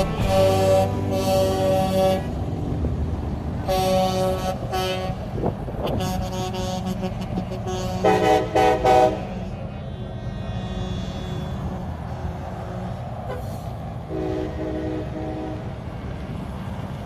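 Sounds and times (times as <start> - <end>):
truck air horn blasts: 0.0 - 2.4, 3.6 - 15.8
truck engines and tyres rumbling: 0.0 - 17.0.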